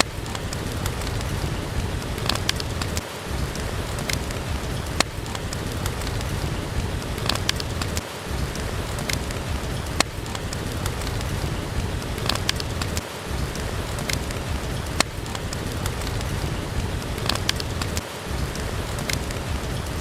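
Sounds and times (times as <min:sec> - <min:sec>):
fireplace pops and crackles: 0:00.0 - 0:20.0
rain with low rumble: 0:00.0 - 0:20.0.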